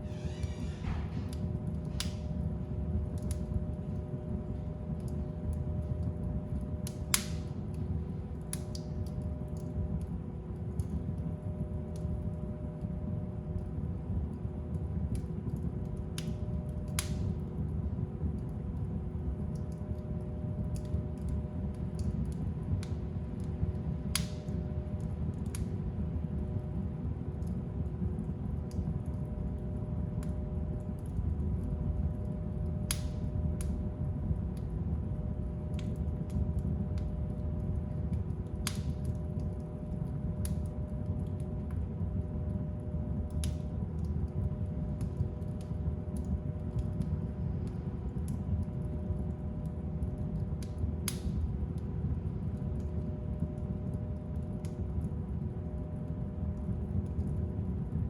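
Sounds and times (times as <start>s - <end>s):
fire burning in fireplace: 0.0s - 58.0s
fire crackles and pops: 0.0s - 58.0s.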